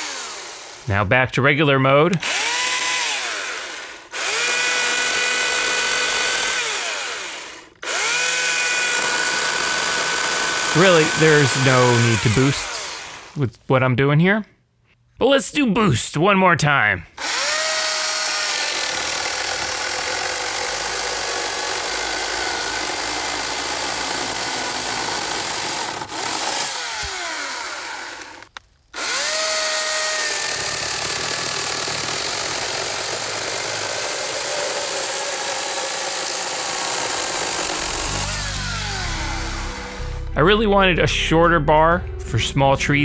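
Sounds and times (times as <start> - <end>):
chainsaw sawing through a log: 0.0 - 0.9, 2.1 - 13.4, 17.2 - 40.2.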